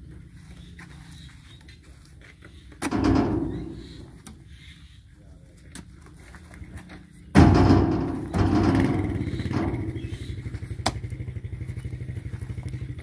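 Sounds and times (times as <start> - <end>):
vehicle engine running: 0.0 - 4.7, 6.3 - 13.0.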